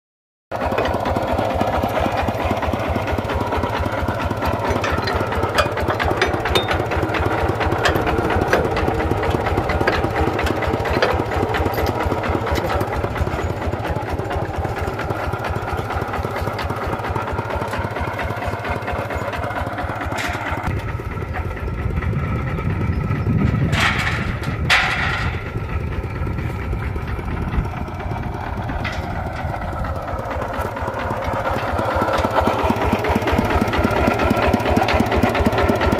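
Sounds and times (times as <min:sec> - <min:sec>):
diesel engine chugging: 0:00.5 - 0:35.9.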